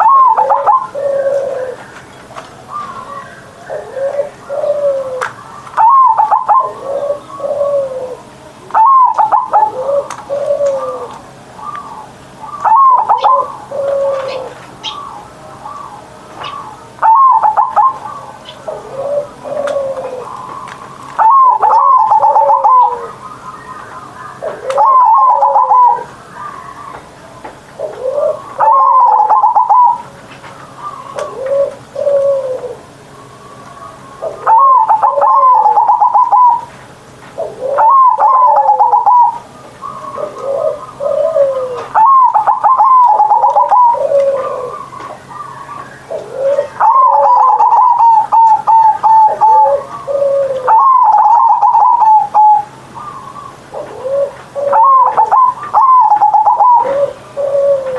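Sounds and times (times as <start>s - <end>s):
soft low coos: 0.0s - 23.2s, 30.7s - 36.6s, 37.4s - 45.3s, 46.1s - 57.9s
dove cooing song: 0.0s - 57.9s.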